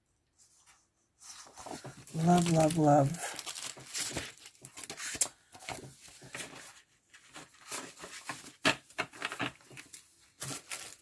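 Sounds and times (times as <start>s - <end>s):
paper and plastic rustling: 0.4s - 11.0s.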